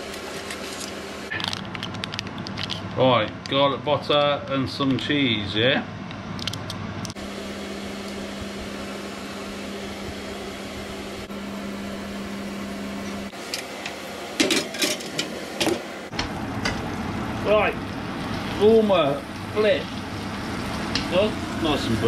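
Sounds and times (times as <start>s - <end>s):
electric fan hum: 0.0s - 22.0s.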